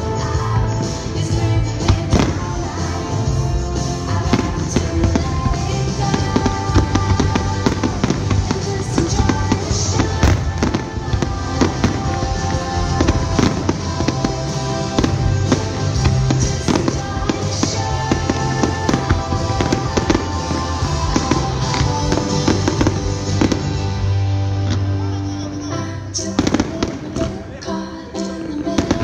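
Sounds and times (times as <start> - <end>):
music playing: 0.0 - 29.0
fireworks bangs and crackles: 0.4 - 24.9.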